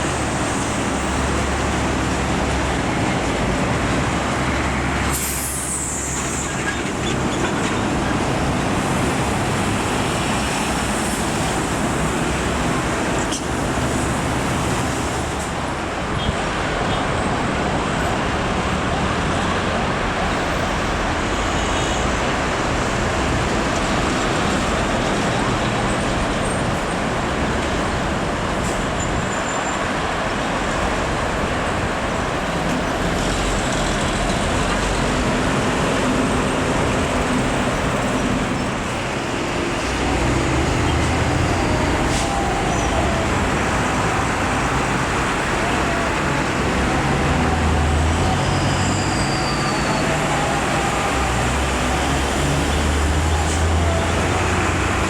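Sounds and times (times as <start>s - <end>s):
diesel truck engine drone: 0.0s - 55.0s
road traffic noise: 0.0s - 55.0s.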